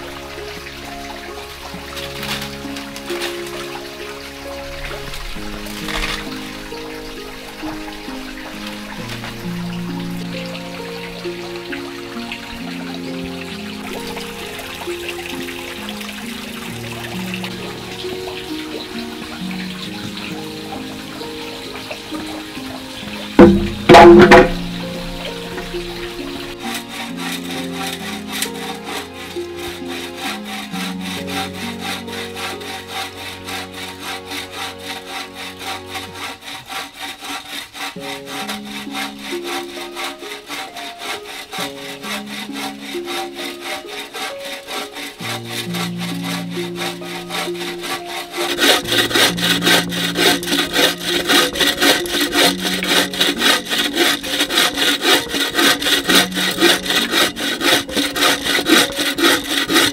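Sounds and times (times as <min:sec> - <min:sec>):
saw cutting wood: 0:00.0 - 0:59.9
soft background music: 0:00.0 - 0:59.9.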